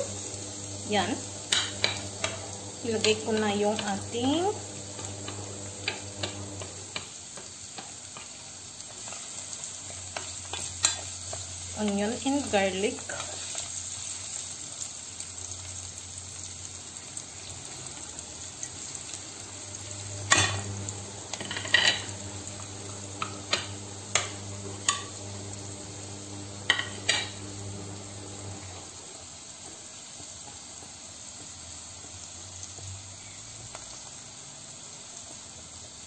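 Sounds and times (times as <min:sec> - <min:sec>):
onion sizzling in oil: 0:00.0 - 0:36.0.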